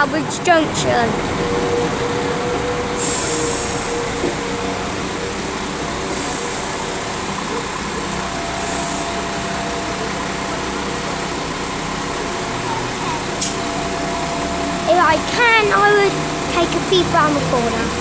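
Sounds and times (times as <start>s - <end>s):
train diesel engine idling: 0.0s - 18.0s.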